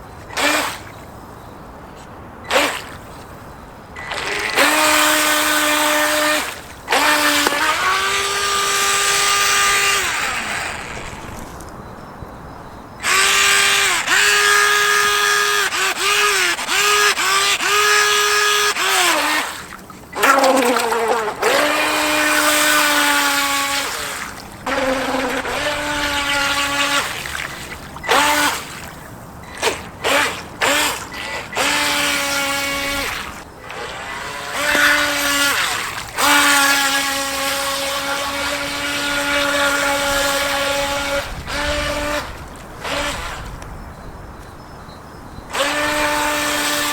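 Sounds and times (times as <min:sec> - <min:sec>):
electric boat motor whining: 0:00.0 - 0:01.1, 0:02.4 - 0:11.8, 0:13.0 - 0:43.8, 0:45.5 - 0:46.9.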